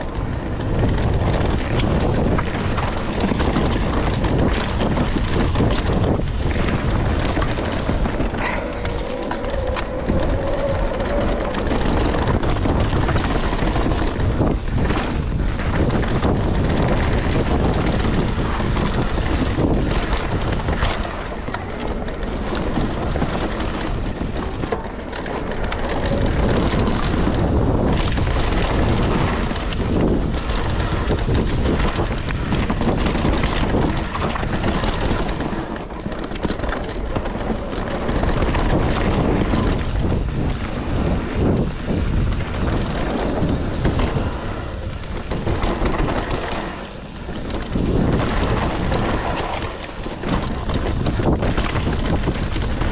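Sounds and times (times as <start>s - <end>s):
bike rattling: 0.0s - 52.9s
wind noise on microphone: 0.0s - 52.9s.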